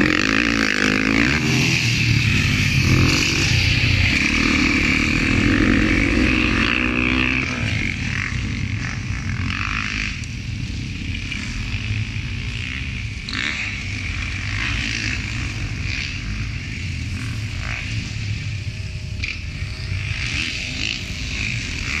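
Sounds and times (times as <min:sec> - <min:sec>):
dirt bike revving close: 0:00.0 - 0:22.0
distant dirt bikes revving: 0:00.0 - 0:22.0.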